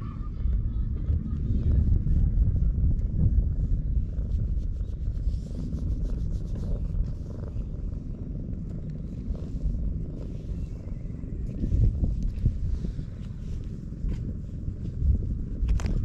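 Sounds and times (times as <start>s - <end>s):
cat purring: 0.3s - 16.0s.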